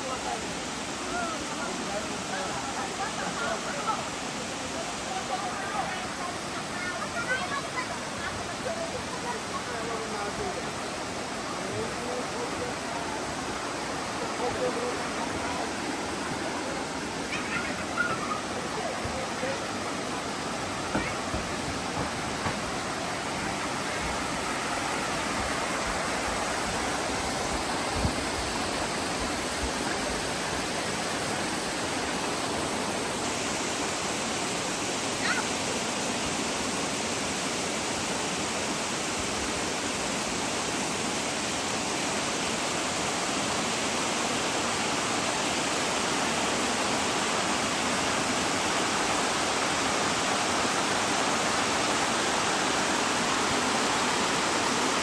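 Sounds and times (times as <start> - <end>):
water cascading down waterfall: 0.0 - 55.0.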